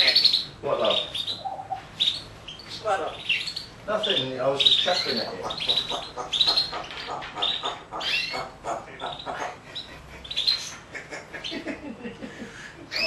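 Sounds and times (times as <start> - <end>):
parrot calls and chatter: 0.0 - 13.0.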